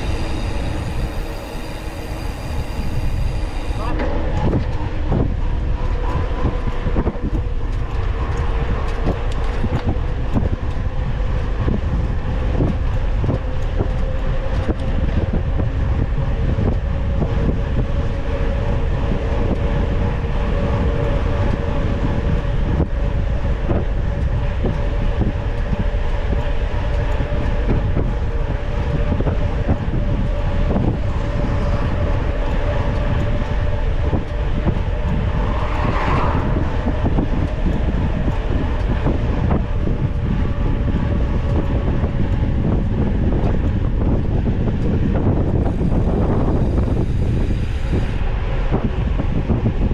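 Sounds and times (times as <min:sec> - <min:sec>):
bike rattling and knocking: 0:00.0 - 0:35.8, 0:36.5 - 0:49.9
steady hum rising in pitch: 0:00.0 - 0:49.9
wind buffeting microphone: 0:00.0 - 0:49.9.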